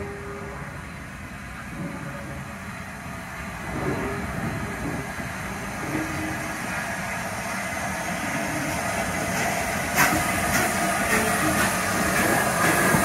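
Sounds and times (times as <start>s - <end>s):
steam locomotive rumbling past: 0.0s - 13.0s.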